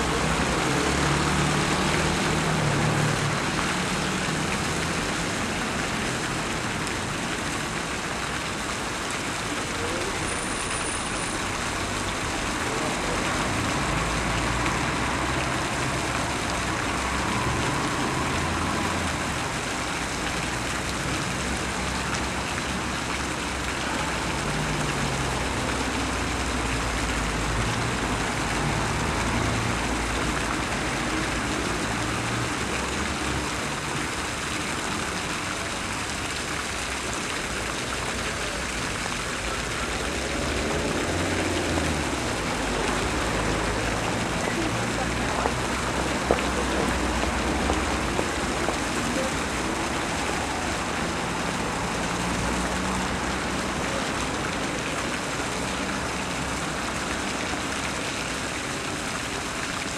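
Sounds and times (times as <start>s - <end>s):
fountain jets splashing: 0.0s - 59.9s.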